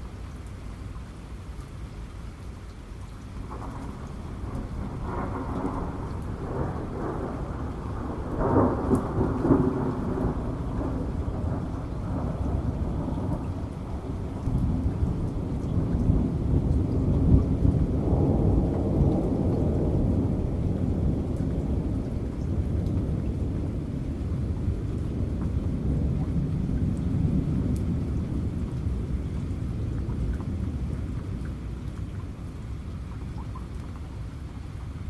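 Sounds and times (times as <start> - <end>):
heavy rain: 0.0 - 35.0
thunder rumbling: 3.4 - 33.4.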